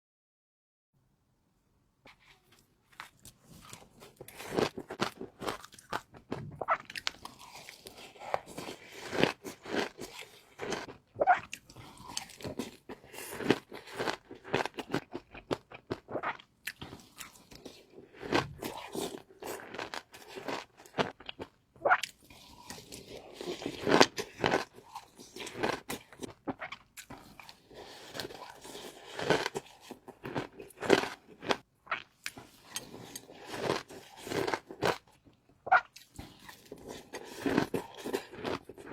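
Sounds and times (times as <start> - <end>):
person chewing crunchy food: 2.1 - 38.9.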